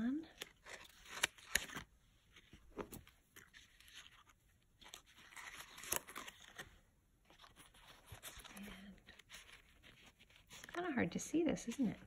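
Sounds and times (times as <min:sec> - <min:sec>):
soft paper rustling: 0:00.3 - 0:12.0.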